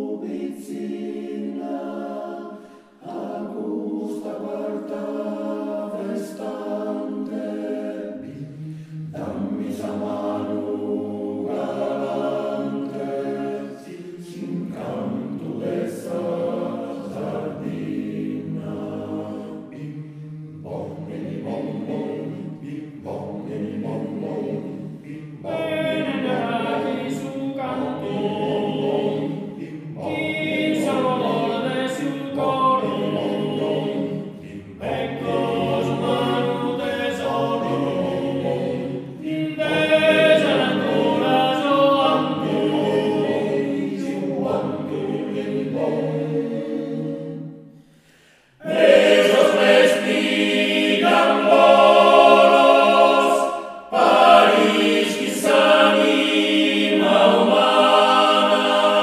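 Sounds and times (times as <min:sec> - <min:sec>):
male choir singing a cappella: 0:00.0 - 0:59.0.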